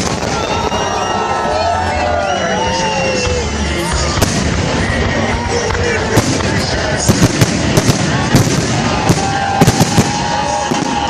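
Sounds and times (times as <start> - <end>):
fireworks bangs: 0.0 - 1.2, 3.2 - 11.0
steady background din: 0.0 - 11.0.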